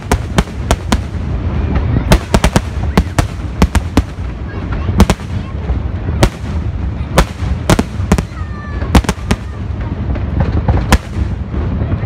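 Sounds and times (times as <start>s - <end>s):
fireworks bangs: 0.0s - 12.0s
steady low rumble: 0.0s - 12.0s.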